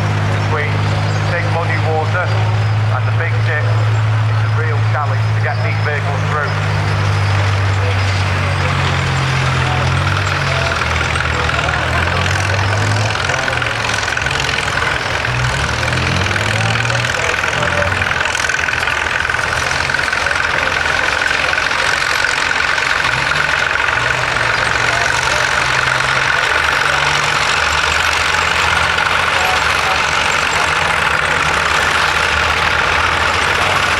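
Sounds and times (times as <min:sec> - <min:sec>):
engine running with low hum: 0:00.0 - 0:33.9.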